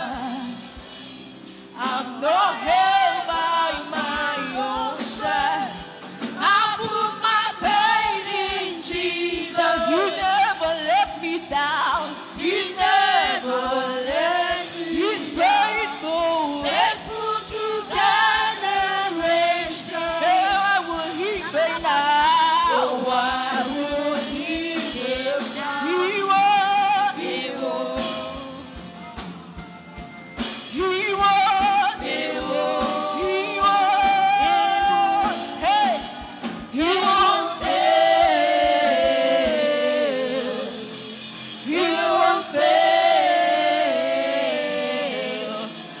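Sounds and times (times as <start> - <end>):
worship song with singing: 0.0 - 29.4, 30.4 - 46.0.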